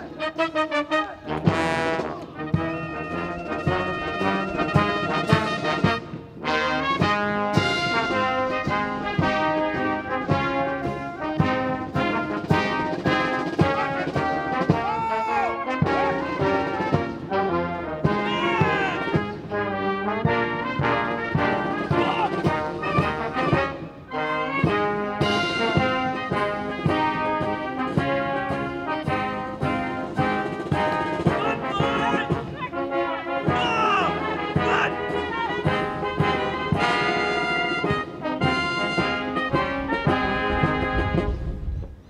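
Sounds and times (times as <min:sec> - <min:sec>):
brass band playing a march: 0:00.0 - 0:41.7.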